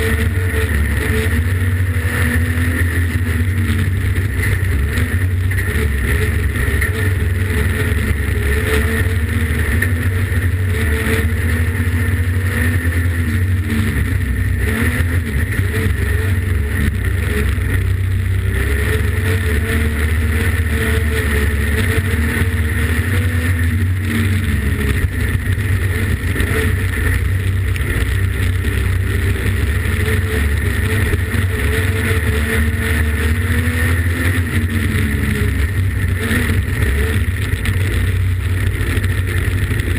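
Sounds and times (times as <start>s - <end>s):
race car engine revving: 0.0s - 39.9s
road and wind noise: 0.0s - 39.9s.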